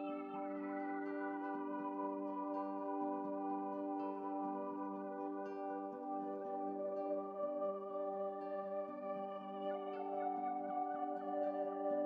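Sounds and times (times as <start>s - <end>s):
calm ambient music: 0.0s - 12.0s.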